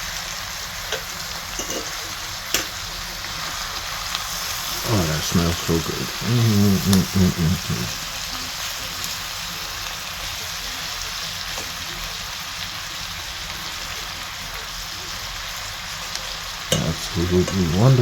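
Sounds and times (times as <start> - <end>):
onions sizzling in a pan: 0.0 - 18.0.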